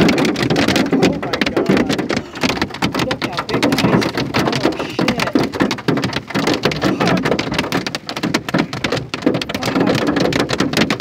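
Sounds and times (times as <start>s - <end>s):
hail hitting a car roof: 0.0s - 11.0s.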